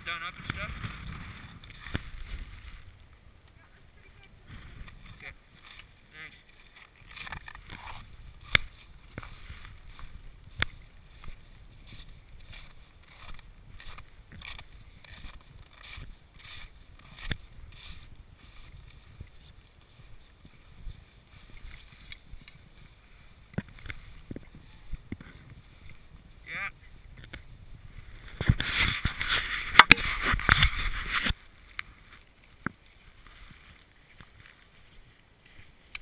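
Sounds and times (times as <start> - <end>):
footsteps crunching in snow: 0.0 - 3.2, 4.4 - 36.0
wind buffeting microphone: 0.0 - 6.0, 7.1 - 31.4.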